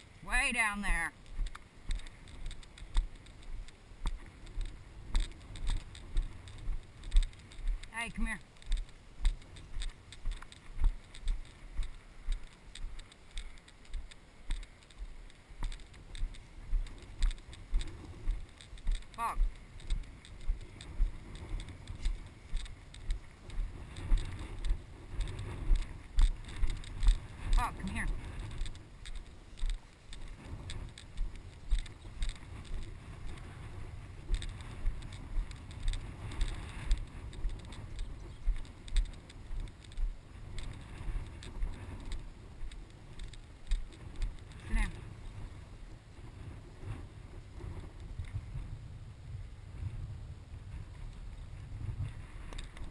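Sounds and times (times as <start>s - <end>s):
footsteps in tall grass: 0.0s - 48.5s
small clicks and rattles: 0.0s - 48.7s, 50.7s - 52.9s
wind buffeting microphone: 0.0s - 52.9s.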